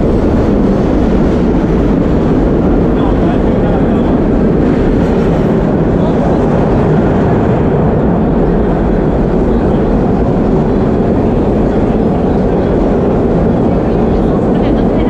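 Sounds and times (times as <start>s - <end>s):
subway car wheels on rails: 0.0s - 15.0s.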